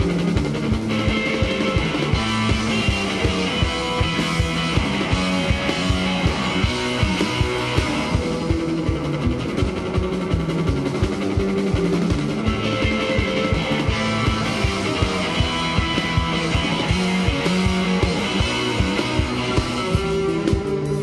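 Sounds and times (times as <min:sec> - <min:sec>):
rock music with guitar and beat: 0:00.0 - 0:21.0.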